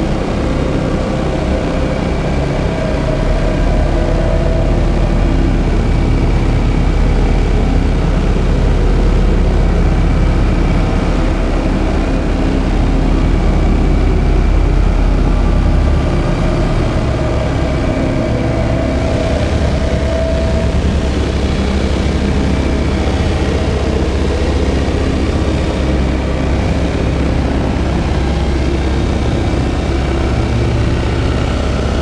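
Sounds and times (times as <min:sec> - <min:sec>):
experimental drone music: 0:00.0 - 0:32.0.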